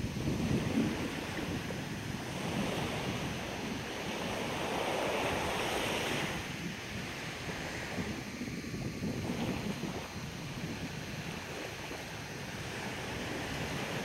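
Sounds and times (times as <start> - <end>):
small waves washing on sand: 0.0 - 14.0
wind rumble on microphone: 0.0 - 14.0.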